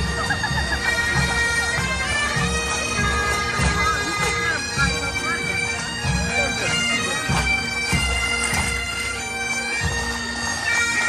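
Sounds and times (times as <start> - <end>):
bagpipes playing: 0.0 - 11.0.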